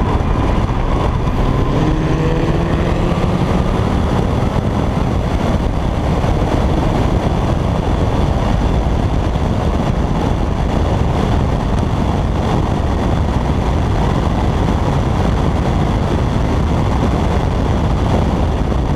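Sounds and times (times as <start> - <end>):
car engine drone: 0.0 - 18.9
wind and road noise: 0.0 - 18.9.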